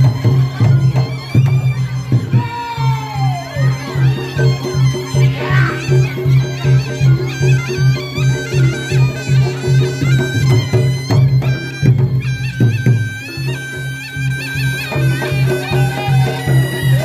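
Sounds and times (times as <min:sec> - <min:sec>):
shrill reedy wind melody: 0:00.0 - 0:17.0.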